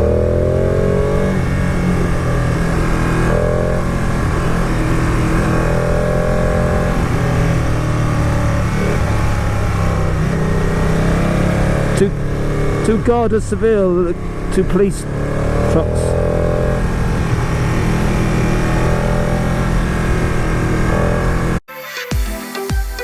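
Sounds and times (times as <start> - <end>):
motorcycle engine running: 0.0 - 21.6
wind and road noise: 0.0 - 21.6.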